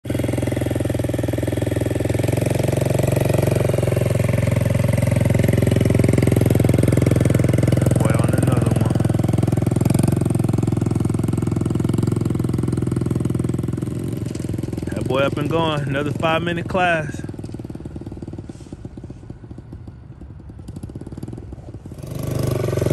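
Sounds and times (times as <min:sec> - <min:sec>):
small gas engine running: 0:00.0 - 0:22.9.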